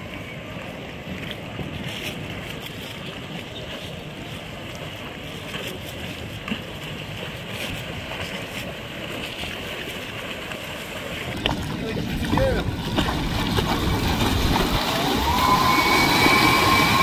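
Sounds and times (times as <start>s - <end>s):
choppy water lapping: 0.0s - 17.0s
wind buffeting microphone: 0.0s - 17.0s.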